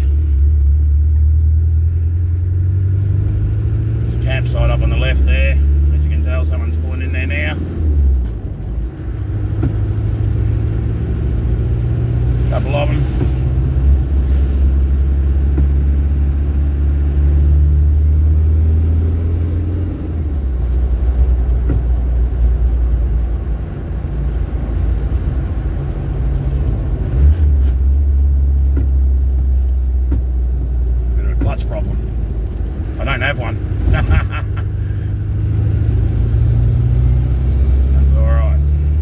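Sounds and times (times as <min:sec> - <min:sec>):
diesel vehicle engine driving: 0:00.0 - 0:39.0.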